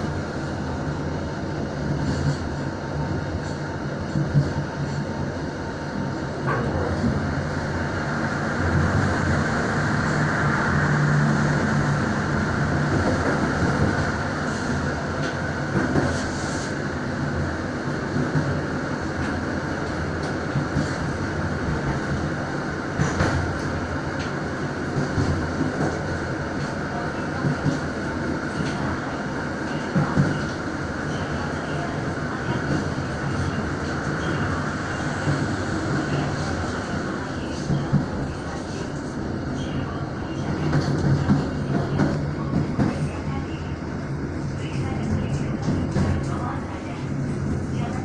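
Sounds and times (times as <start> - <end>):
train wheels rumbling on track: 0.0 - 48.0
rail joint clicks: 6.4 - 8.0, 8.6 - 16.8, 17.4 - 48.0.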